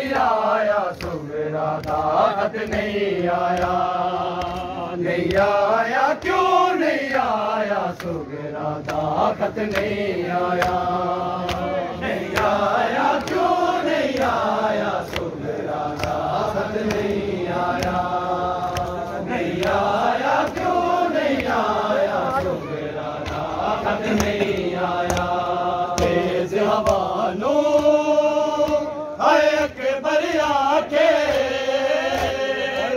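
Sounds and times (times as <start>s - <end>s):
men chanting a lament: 0.0s - 32.9s
hands slapping on chests: 0.1s - 32.9s.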